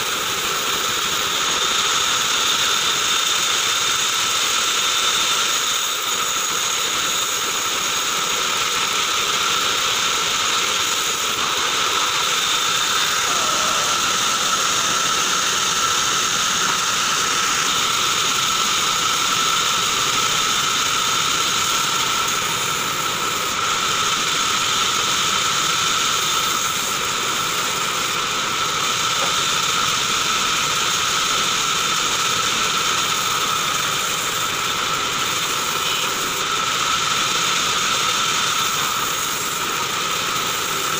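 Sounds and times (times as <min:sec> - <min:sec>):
bandsaw whining through log: 0:00.0 - 0:40.9.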